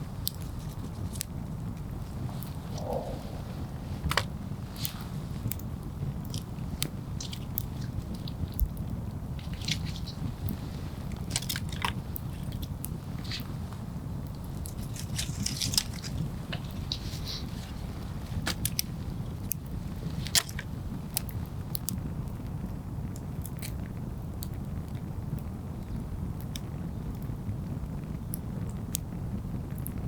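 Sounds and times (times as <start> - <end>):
campfire crackling and popping: 0.0 - 30.0
low rumble of flame: 0.0 - 30.0.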